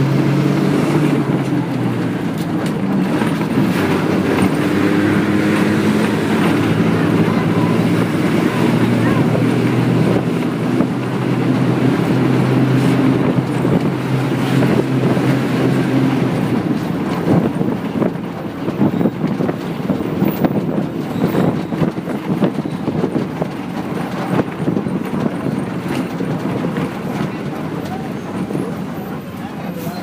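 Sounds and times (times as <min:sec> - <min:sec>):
bus body rattling: 0:00.0 - 0:30.0
bus engine drone: 0:00.0 - 0:30.0
road noise: 0:00.0 - 0:30.0.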